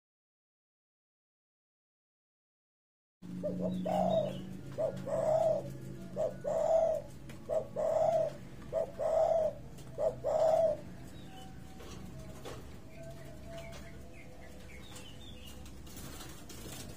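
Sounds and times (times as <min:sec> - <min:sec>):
dove cooing: 0:03.2 - 0:16.9.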